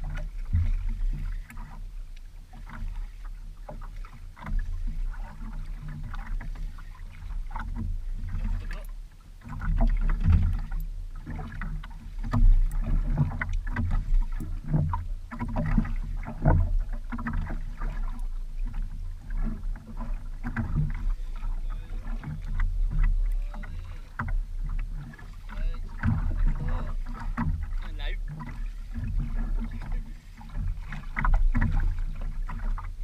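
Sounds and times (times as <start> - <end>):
constant low rumble: 0.0 - 33.0
water splashing against boat hull: 0.0 - 33.0.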